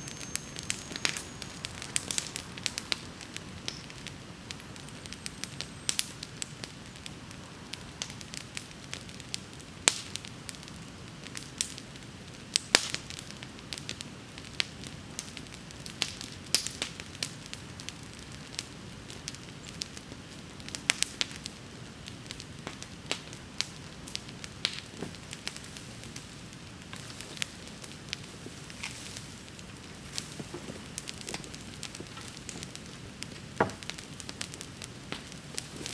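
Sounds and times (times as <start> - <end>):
bonfire crackling: 0.0 - 35.9
low rumble of flames: 0.0 - 35.9.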